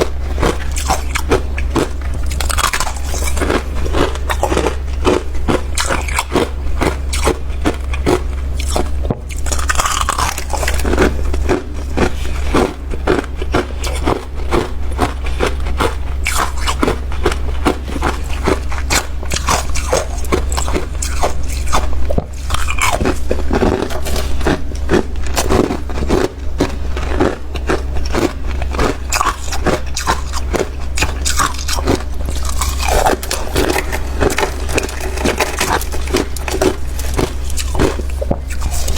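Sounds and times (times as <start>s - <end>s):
crunching chewing of frost: 0.0s - 38.9s
steady low hum: 0.0s - 38.9s.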